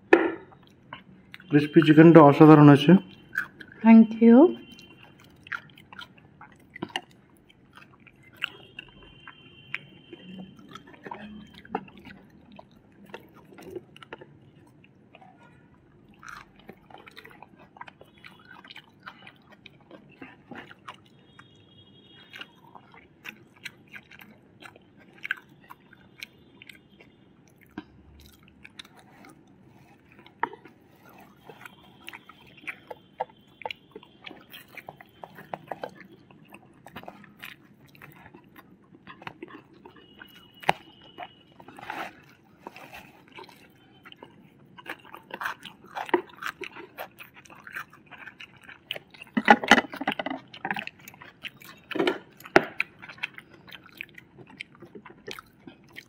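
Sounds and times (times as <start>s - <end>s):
chewing and biting food: 0.4s - 3.8s, 4.5s - 56.0s.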